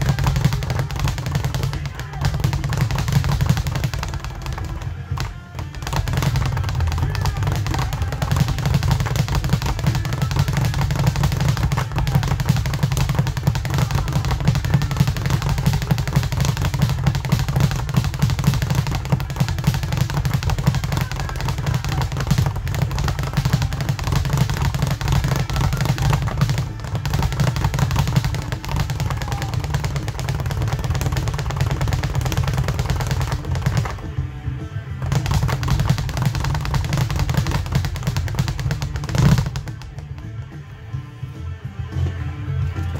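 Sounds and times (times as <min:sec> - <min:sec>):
speed bag being punched: 0:00.0 - 0:34.2, 0:35.0 - 0:40.5.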